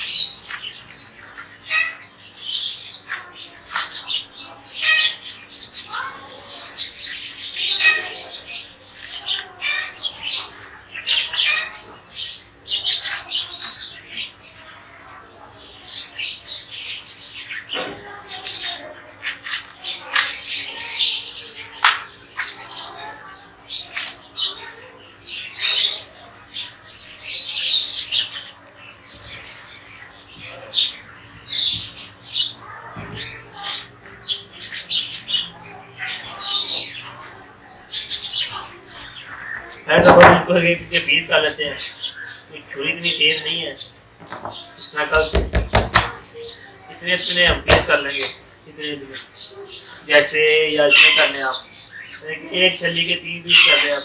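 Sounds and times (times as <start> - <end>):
parrots squawking and chirping: 0.0 - 54.0.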